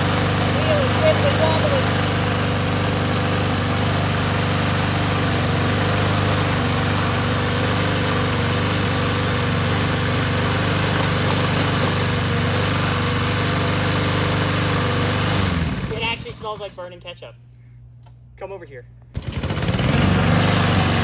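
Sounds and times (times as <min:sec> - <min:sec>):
lawnmower engine running: 0:00.0 - 0:17.2, 0:19.2 - 0:21.0.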